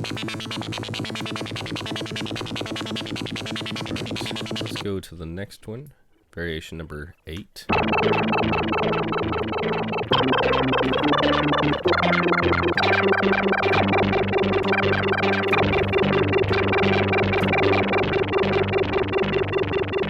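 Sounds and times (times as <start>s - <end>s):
repeating synth guitar pattern: 0.0s - 4.8s, 7.7s - 20.0s.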